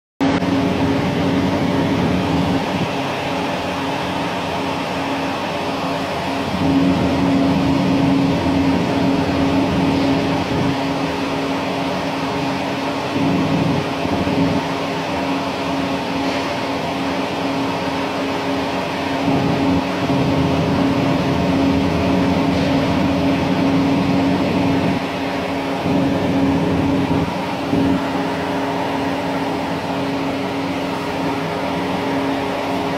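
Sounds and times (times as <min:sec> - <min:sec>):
underwater mechanical hum: 0:00.2 - 0:32.9.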